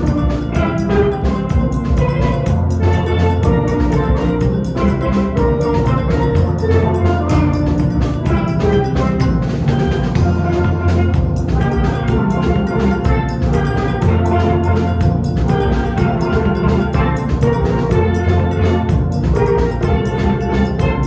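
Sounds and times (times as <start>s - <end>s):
deep bass pan notes: 0.0s - 21.0s
drums keeping a beat: 0.0s - 21.0s
steel pan band playing: 0.0s - 21.0s.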